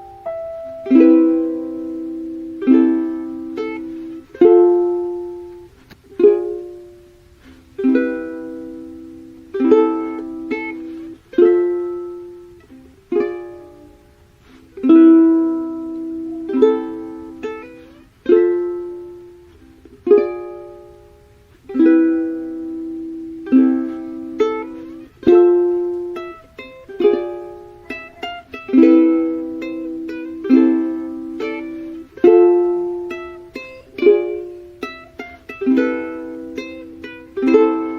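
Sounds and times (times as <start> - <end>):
plucked string chords: 0.0 - 37.9.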